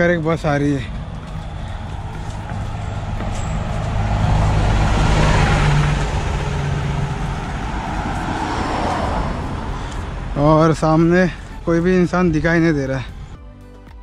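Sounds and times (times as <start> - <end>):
bus driving past: 0.0 - 13.4.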